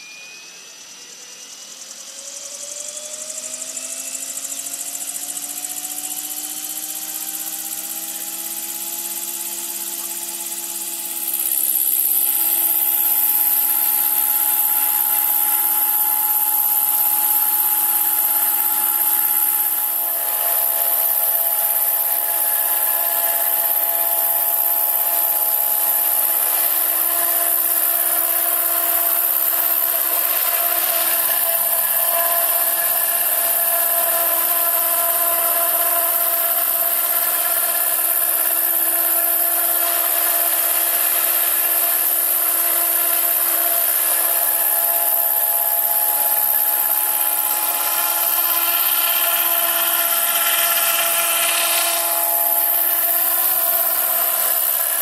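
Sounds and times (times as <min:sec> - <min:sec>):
high hiss: 0:00.0 - 0:55.0
model helicopter rotor whine: 0:00.0 - 0:55.0.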